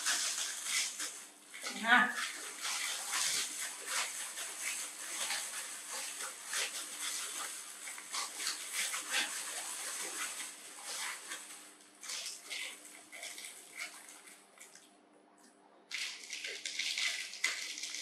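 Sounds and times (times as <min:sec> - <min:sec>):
dry noodles crackling: 0:00.0 - 0:14.8, 0:15.9 - 0:18.0
plastic packet handled: 0:00.0 - 0:14.8, 0:15.9 - 0:18.0.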